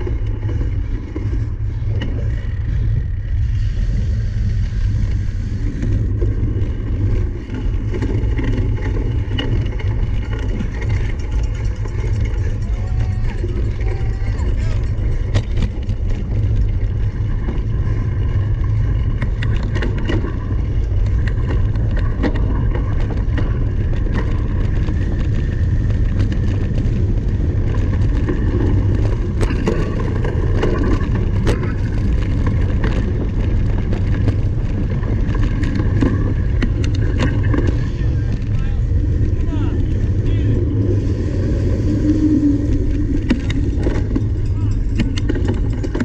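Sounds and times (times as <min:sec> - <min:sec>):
bike rattling and clicking: 0:00.0 - 0:46.0
bike tyres rumbling: 0:00.0 - 0:46.0.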